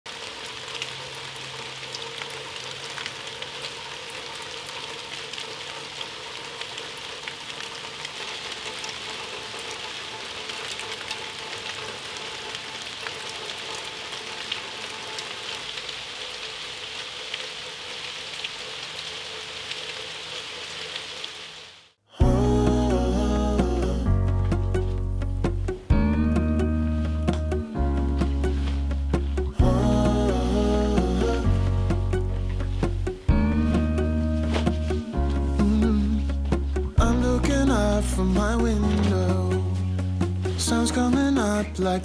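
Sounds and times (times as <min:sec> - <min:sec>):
steady rain falling: 0:00.1 - 0:42.0.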